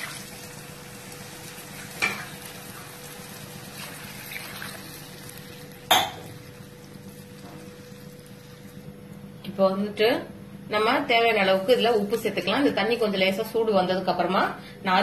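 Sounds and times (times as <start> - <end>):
soft steady sizzle: 0.0 - 14.2.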